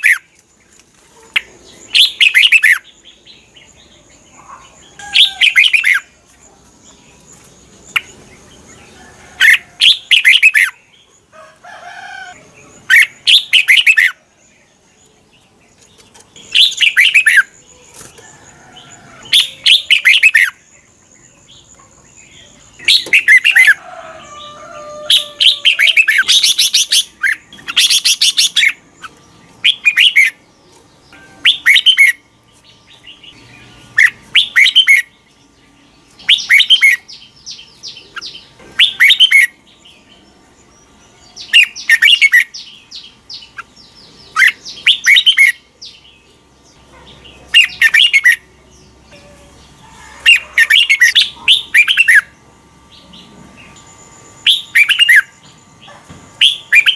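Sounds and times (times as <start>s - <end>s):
bird warbling song: 0.0s - 56.9s.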